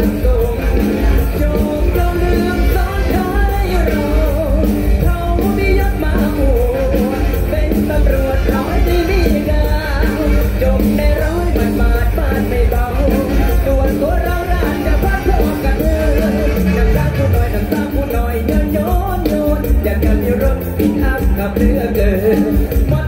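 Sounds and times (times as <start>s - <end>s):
band music through a pa: 0.0s - 23.0s
man singing: 0.0s - 23.0s.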